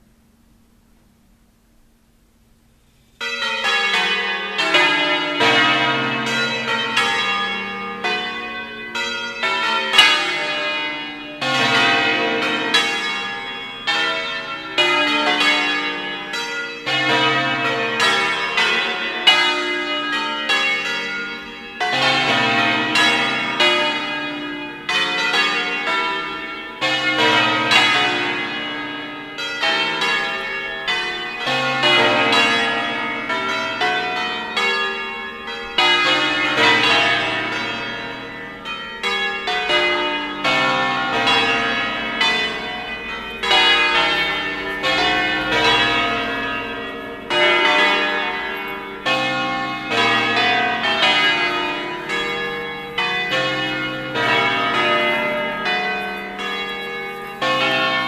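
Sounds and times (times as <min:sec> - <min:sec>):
church bells pealing: 0:03.0 - 0:58.0.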